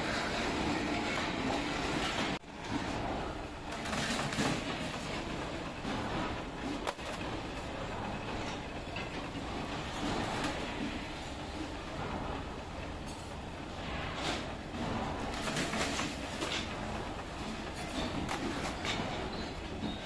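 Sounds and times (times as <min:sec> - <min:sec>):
metalworking machinery din: 0:00.0 - 0:20.0.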